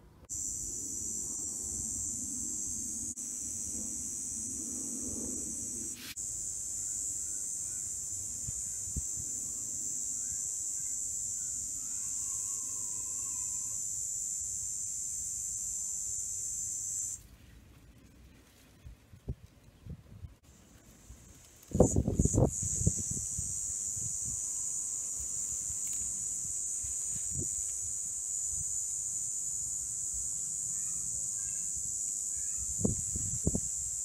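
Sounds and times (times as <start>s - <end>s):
high-pitched hiss: 0.3s - 17.3s, 20.4s - 34.0s.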